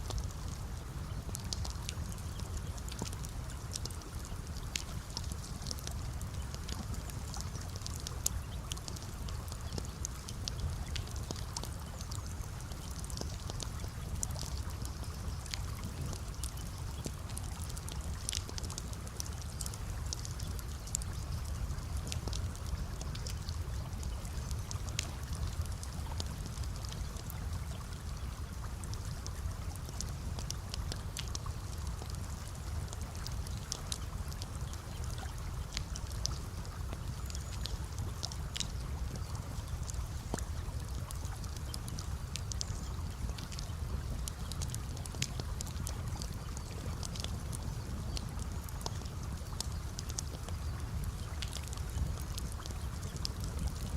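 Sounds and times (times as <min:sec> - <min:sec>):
campfire crackling and popping: 0:00.0 - 0:53.9
flowing water: 0:00.0 - 0:53.9.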